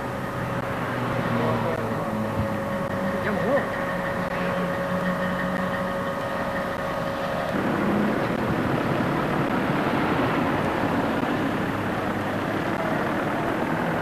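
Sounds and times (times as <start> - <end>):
diesel locomotive engine hum: 0.0 - 14.0
train rumbling on the move: 0.0 - 14.0.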